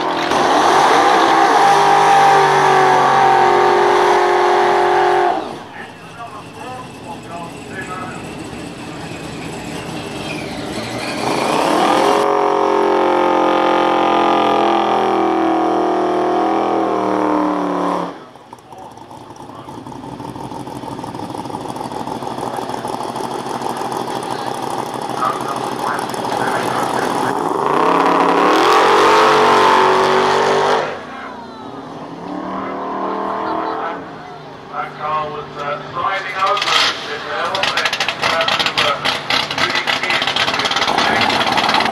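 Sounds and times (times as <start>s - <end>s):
car engine launching with rising pitch: 0.0s - 34.2s
drag car engine at full throttle: 0.0s - 41.9s.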